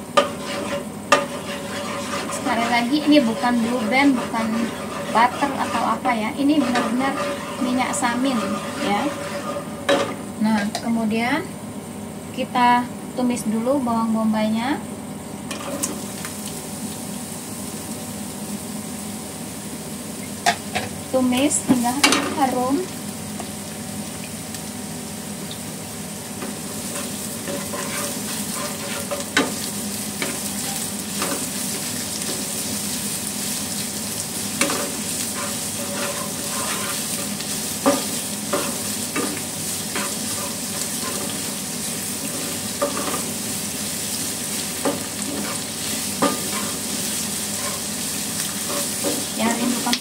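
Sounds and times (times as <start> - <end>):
onions sizzling in a wok: 0.0 - 50.0.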